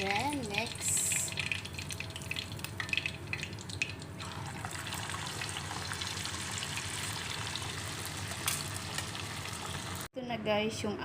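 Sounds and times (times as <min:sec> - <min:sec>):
meat sizzling in hot oil: 0:00.0 - 0:10.1.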